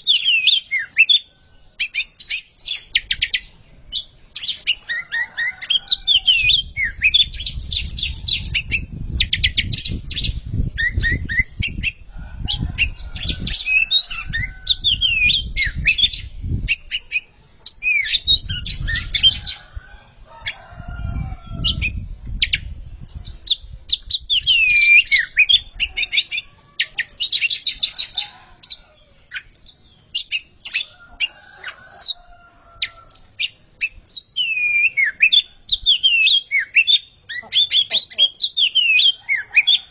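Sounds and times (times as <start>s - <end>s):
birds singing whistles: 0.0s - 32.2s, 32.8s - 39.9s.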